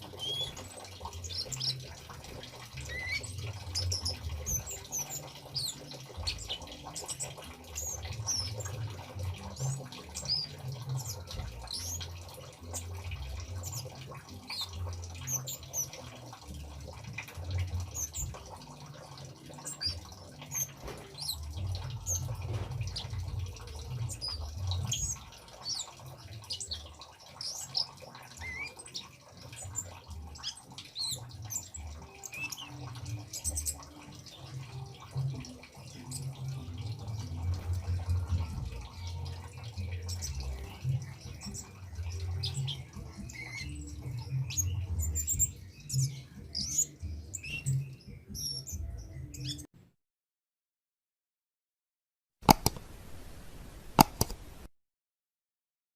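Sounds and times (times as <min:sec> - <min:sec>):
birds chirping: 0:00.0 - 0:49.7
faint trickle of running water: 0:00.0 - 0:49.7.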